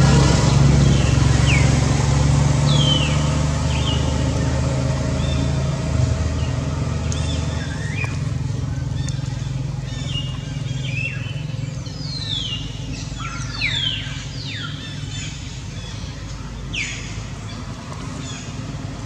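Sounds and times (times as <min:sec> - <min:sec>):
birds whistling: 0:00.2 - 0:02.0, 0:02.6 - 0:18.8.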